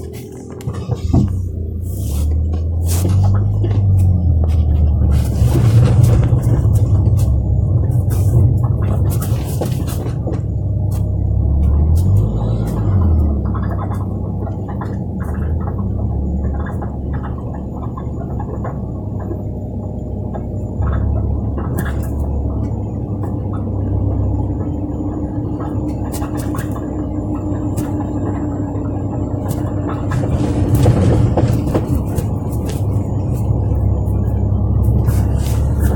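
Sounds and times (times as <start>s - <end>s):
car road noise from inside: 0.0s - 35.9s
suspension squeaking: 0.0s - 35.9s.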